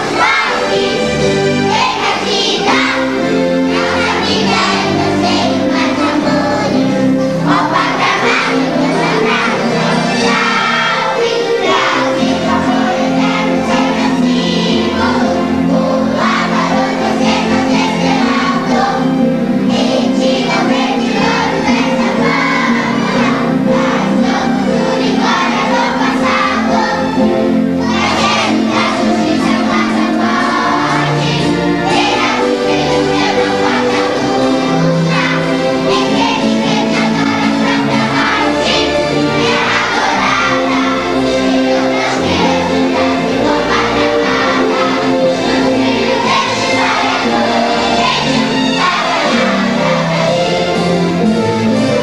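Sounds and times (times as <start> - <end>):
children's choir singing: 0.0 - 52.0
musical accompaniment: 0.0 - 52.0.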